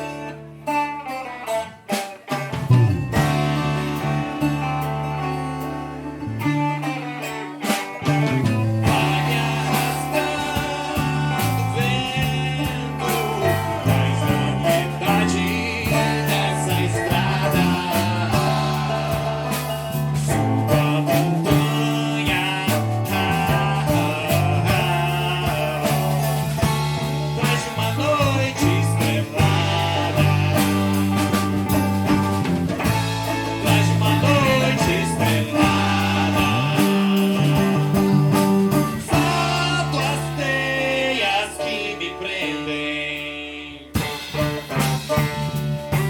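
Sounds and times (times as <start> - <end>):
electric bass line: 0.0 - 46.0
live band music: 0.0 - 46.0
steady drum hits: 2.4 - 5.0, 8.1 - 41.0, 44.0 - 46.0.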